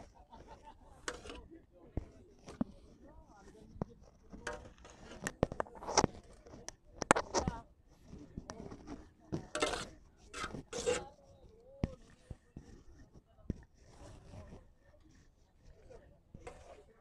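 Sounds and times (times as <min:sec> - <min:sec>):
faint voices: 0:00.0 - 0:17.0.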